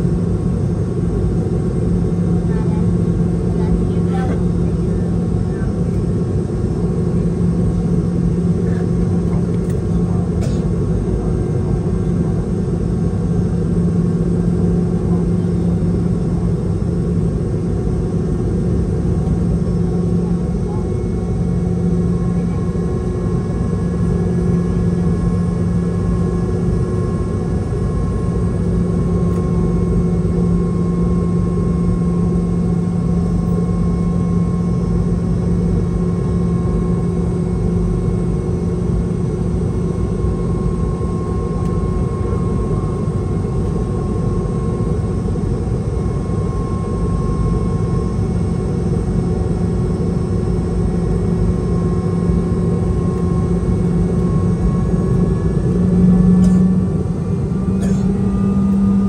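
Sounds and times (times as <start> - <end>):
faint engine whine: 0.0 - 59.0
jet engine cabin drone: 0.0 - 59.0.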